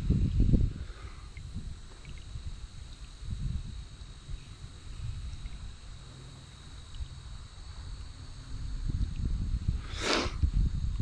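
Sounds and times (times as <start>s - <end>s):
high insect drone: 0.0s - 11.0s
wind rumble on microphone: 0.0s - 11.0s.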